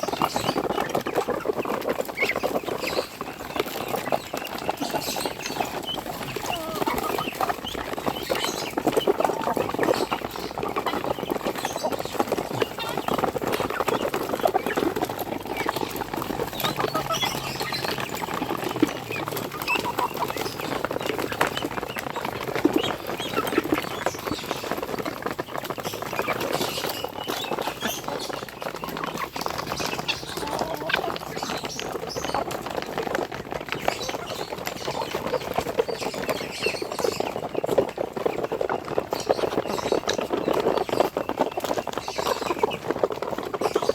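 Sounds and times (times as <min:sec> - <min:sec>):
poultry clucking: 0:00.0 - 0:43.9.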